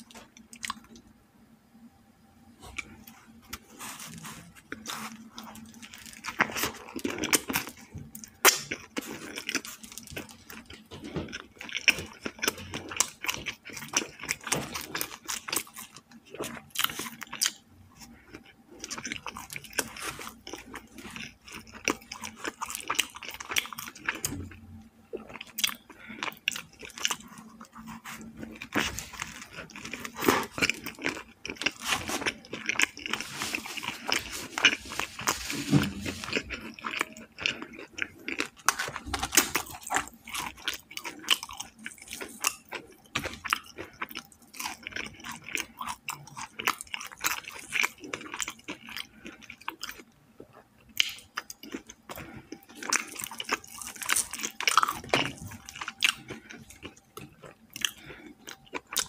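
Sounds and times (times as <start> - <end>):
crunchy eating and chewing: 0.0 - 1.0, 2.6 - 59.0.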